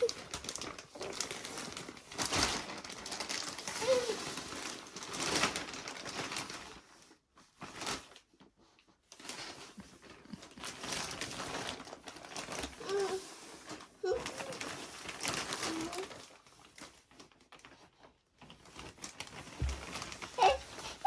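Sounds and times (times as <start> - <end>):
plastic or paper rustling: 0.0 - 21.0.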